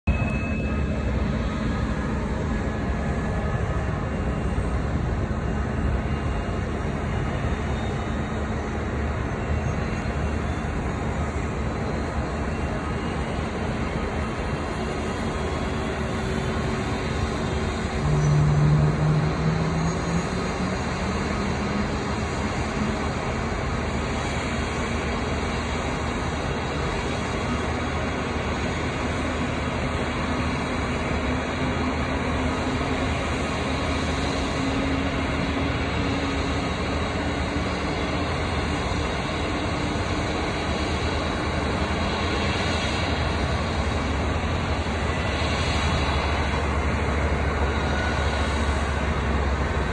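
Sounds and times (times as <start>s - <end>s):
engine and apron roar: 0.0s - 49.9s.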